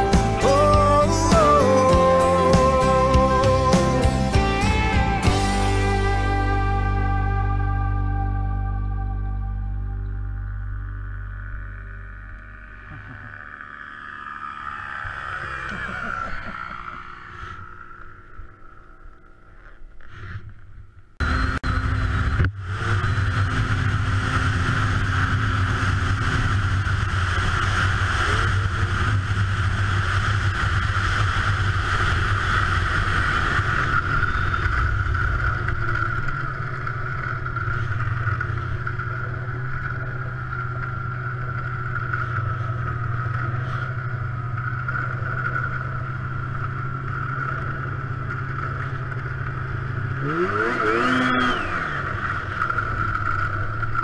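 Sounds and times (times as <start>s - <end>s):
snowmobile engine running: 0.0s - 20.4s, 21.2s - 54.0s.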